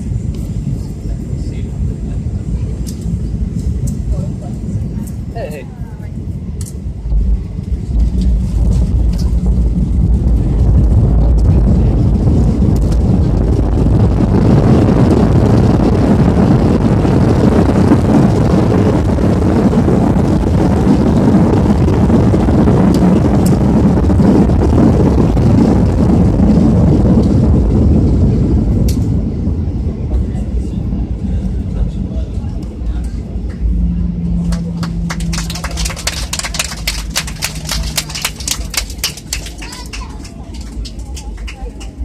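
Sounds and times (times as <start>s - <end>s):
airliner cabin roar: 0.0s - 42.0s.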